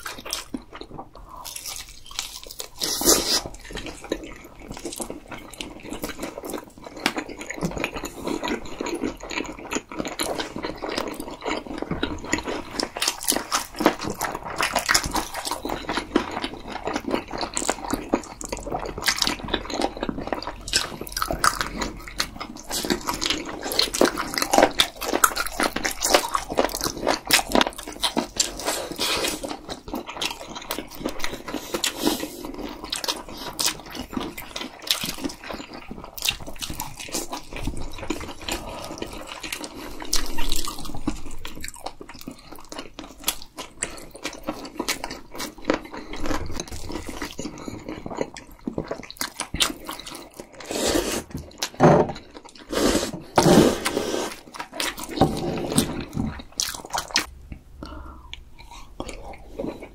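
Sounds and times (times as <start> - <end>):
wet chewing and lip smacking: 0.0 - 53.4, 54.3 - 59.9.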